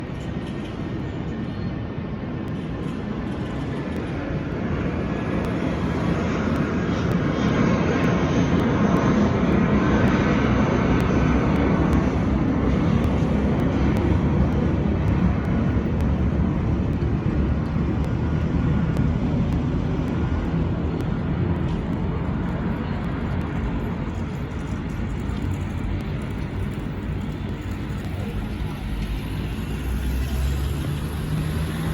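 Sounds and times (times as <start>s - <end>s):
jet engine rumble: 0.0s - 31.9s.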